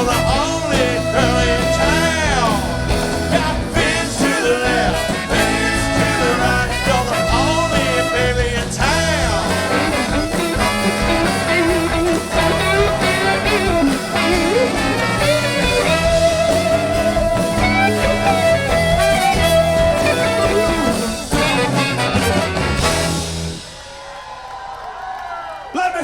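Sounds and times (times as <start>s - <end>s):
live rock band playing: 0.0s - 24.2s.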